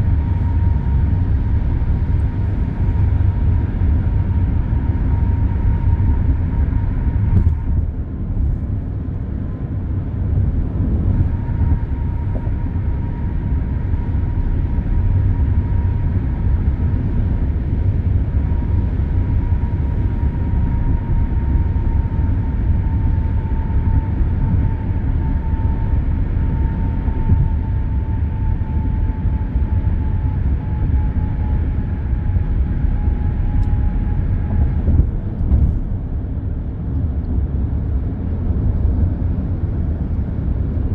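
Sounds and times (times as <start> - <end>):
expressway traffic noise: 0.0 - 40.9.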